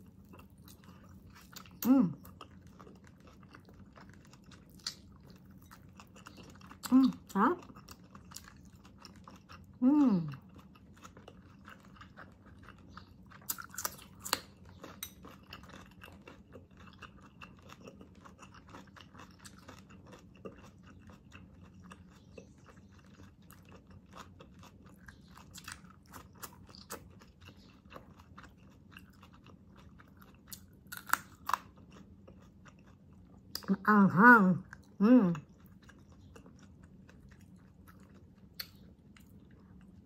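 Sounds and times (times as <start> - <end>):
wet chewing: 0.0 - 33.8, 34.7 - 40.0
chili crunching: 0.0 - 40.0.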